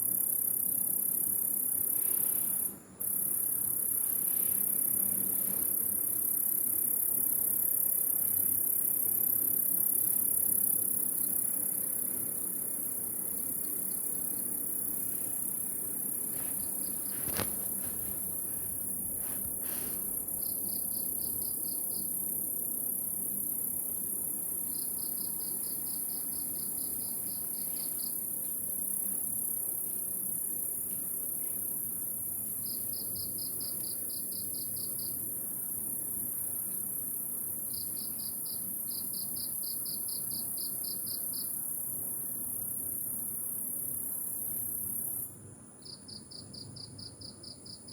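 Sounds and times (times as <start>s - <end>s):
night insect chorus drone: 0.0s - 47.9s.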